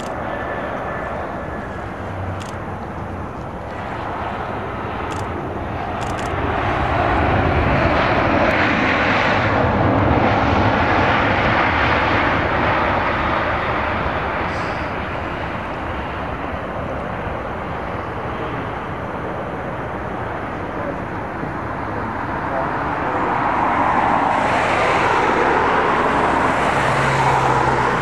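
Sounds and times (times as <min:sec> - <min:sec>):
jet engines taxiing: 0:00.0 - 0:28.0.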